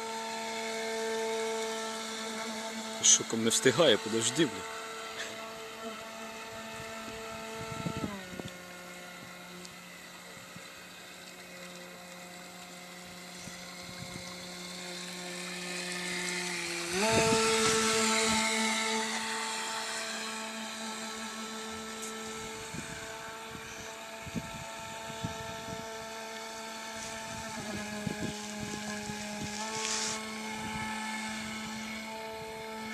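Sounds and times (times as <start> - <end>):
small electric motors whining: 0.0 - 32.9.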